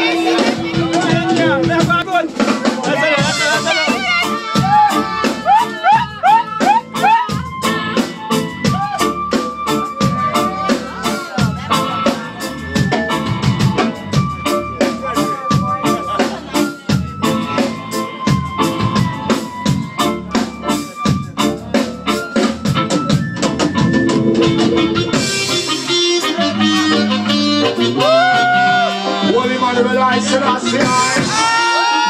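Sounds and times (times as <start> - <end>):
reggae band playing: 0.0 - 32.0.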